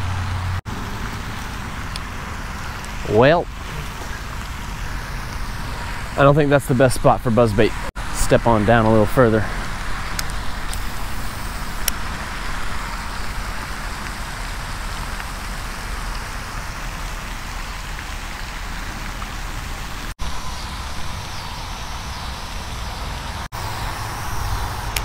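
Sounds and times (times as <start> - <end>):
splashing water: 0.0 - 25.0.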